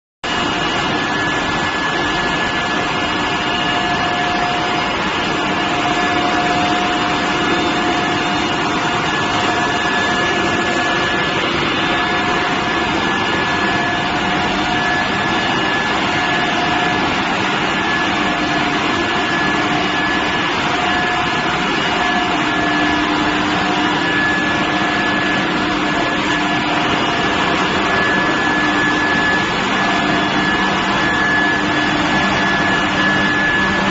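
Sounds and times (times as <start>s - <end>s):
high steady whine: 0.2s - 33.9s
industrial furnace running: 0.2s - 33.9s.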